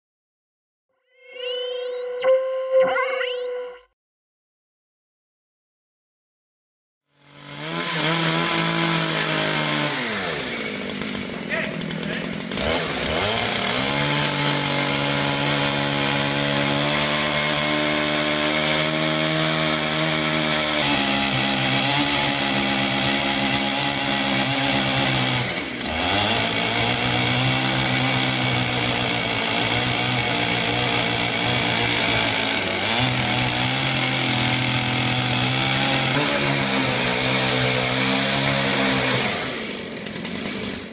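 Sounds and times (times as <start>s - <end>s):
chainsaw running: 7.1s - 40.9s.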